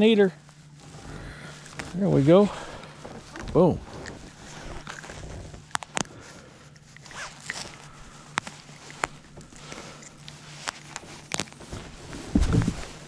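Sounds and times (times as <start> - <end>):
faint low hum: 0.0 - 13.0
rustling: 0.0 - 13.0.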